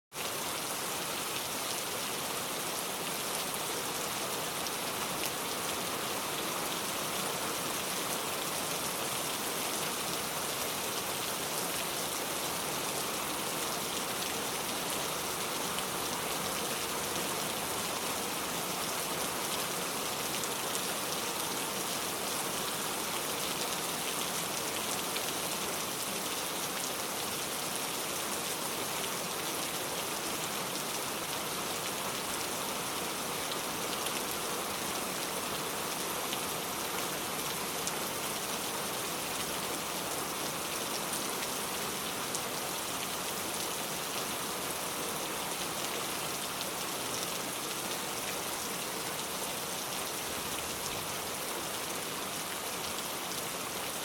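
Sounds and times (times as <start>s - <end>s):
steady downpour of rain: 0.1s - 54.0s.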